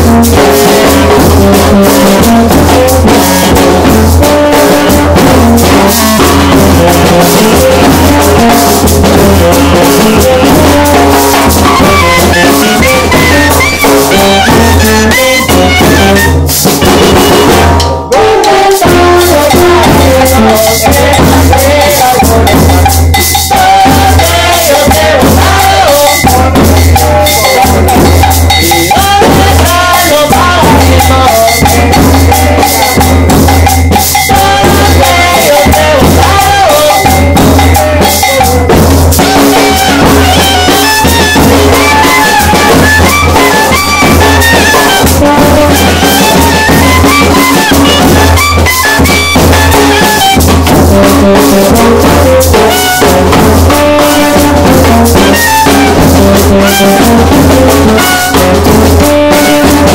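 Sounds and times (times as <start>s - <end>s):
cowbell: 0.0s - 17.2s, 18.3s - 56.9s
band dance music: 0.0s - 59.9s
bass drum: 0.0s - 59.9s
snare drum: 0.0s - 59.9s.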